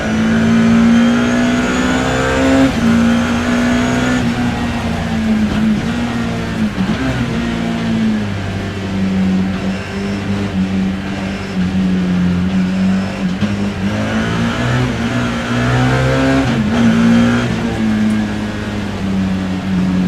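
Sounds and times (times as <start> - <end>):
race car engine under load: 0.0 - 20.0.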